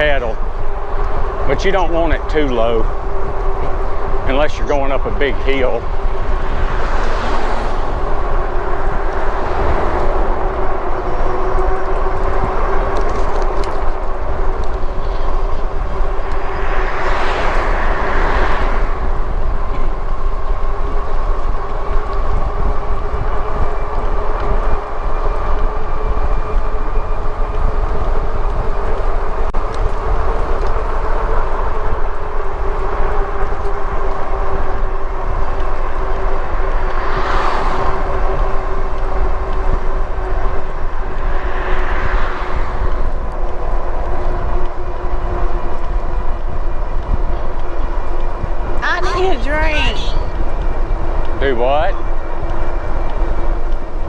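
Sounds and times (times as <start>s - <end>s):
hub motor whine: 0.0s - 48.8s, 50.2s - 54.0s
wind rumble on microphone: 0.0s - 49.4s, 50.1s - 54.0s
tyre noise on road: 0.0s - 54.0s.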